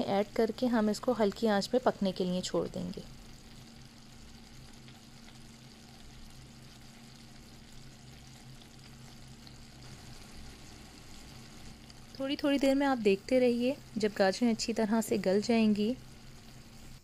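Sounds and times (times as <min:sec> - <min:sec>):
low steady hum: 0:00.0 - 0:17.0
vegetables sizzling in oil: 0:00.0 - 0:17.0.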